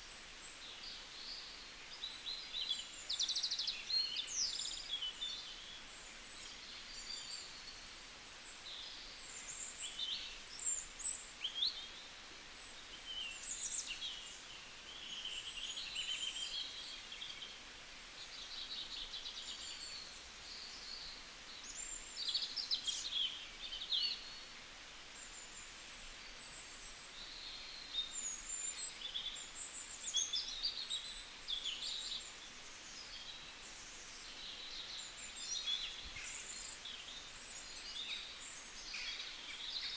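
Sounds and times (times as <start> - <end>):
faint steady hiss: 0.0 - 39.9
small birds chirping: 0.0 - 39.9.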